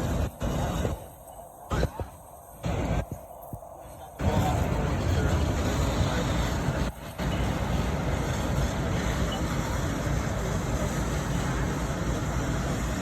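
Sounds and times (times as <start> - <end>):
fire truck engines rumbling: 0.0 - 13.0.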